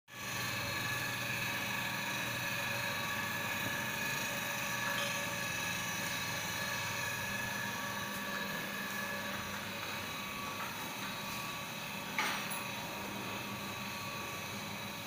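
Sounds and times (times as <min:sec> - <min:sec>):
machinery humming and whining: 0:00.1 - 0:15.0.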